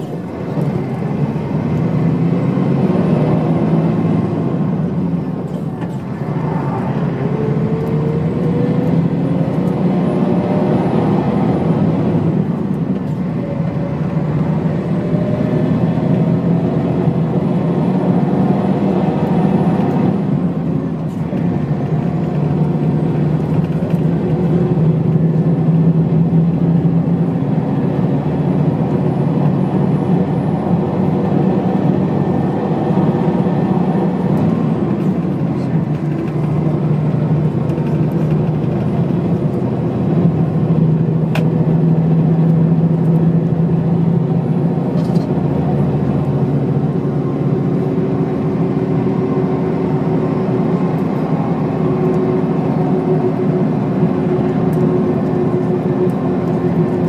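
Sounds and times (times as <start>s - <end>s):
bus diesel engine running: 0.0s - 57.0s
tyre and road noise: 0.0s - 57.0s.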